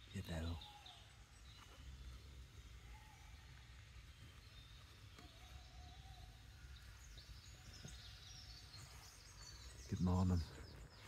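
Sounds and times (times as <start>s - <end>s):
low steady background rumble: 0.0s - 11.0s
small birds chirping: 0.0s - 11.0s.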